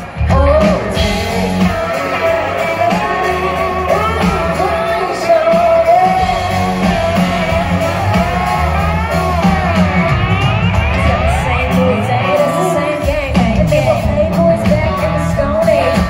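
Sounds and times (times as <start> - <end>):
women singing: 0.0 - 8.4, 11.1 - 16.0
country band playing: 0.0 - 16.0.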